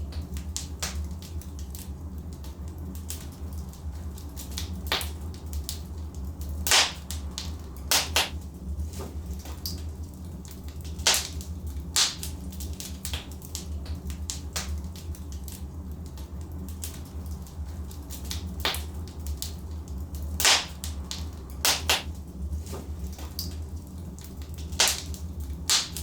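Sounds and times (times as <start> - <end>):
fire crackling and popping: 0.0 - 26.0
low rumble of fire: 0.0 - 26.0.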